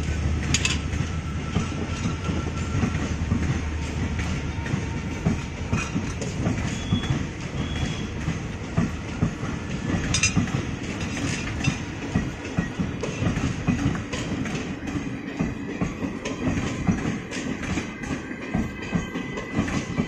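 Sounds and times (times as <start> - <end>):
wheels clicking over rail joints: 0.0 - 3.6, 4.2 - 20.0
train coaches rumbling past: 0.0 - 20.0.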